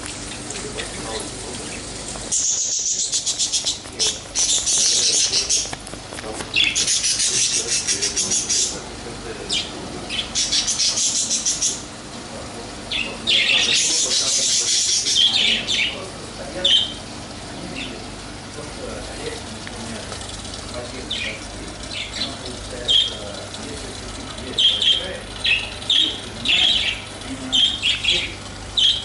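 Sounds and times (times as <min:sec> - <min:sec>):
small birds chirping: 0:00.4 - 0:29.0.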